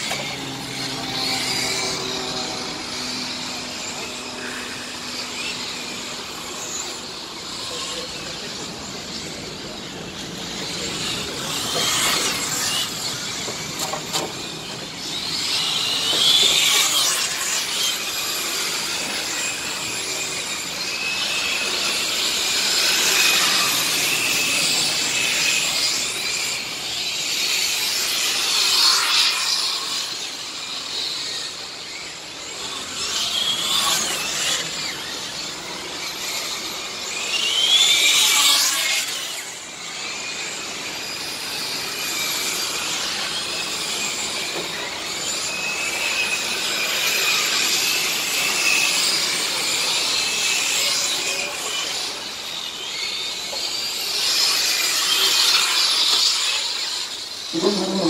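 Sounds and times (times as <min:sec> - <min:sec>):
model trucks motors whining: 0:00.0 - 0:58.0.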